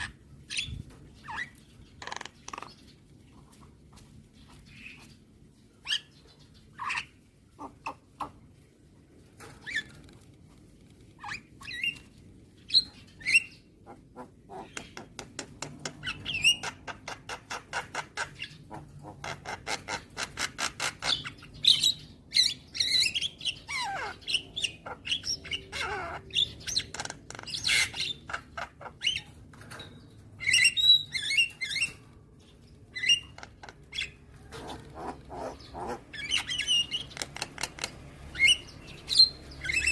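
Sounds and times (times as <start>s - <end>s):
myna chirping and squawking: 0.0s - 3.7s, 4.4s - 8.7s, 11.0s - 39.9s.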